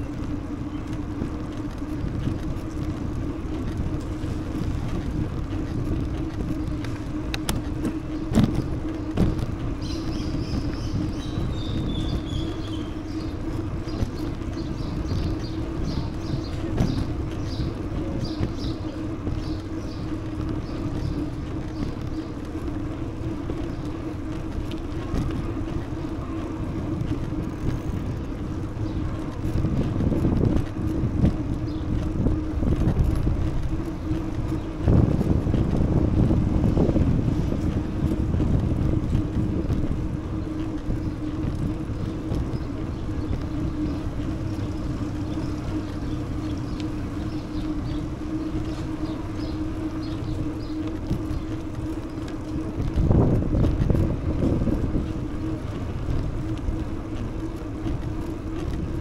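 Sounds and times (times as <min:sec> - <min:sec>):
steady low hum: 0:00.0 - 0:59.0
wind rushing on microphone: 0:00.0 - 0:59.0.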